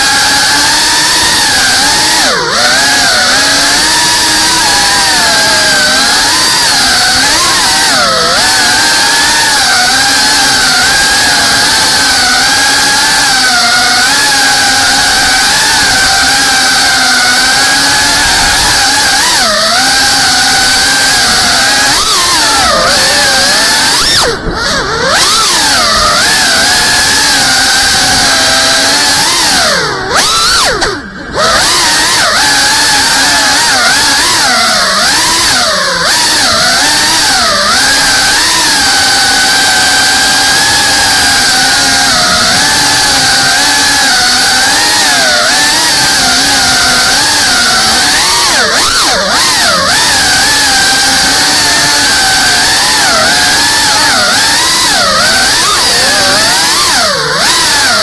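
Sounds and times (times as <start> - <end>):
drone motors whining: 0.0 - 58.0.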